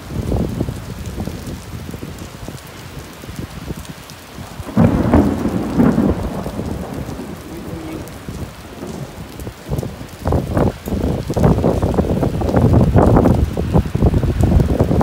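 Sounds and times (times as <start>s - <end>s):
hail and rain on asphalt: 0.0s - 15.0s.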